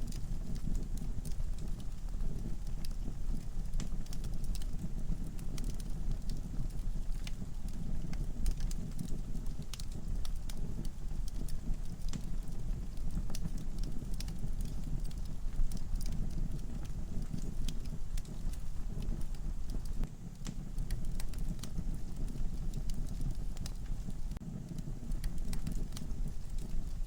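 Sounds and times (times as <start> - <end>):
logs crackling and popping: 0.0 - 27.0
low rumble of flames: 0.0 - 27.0.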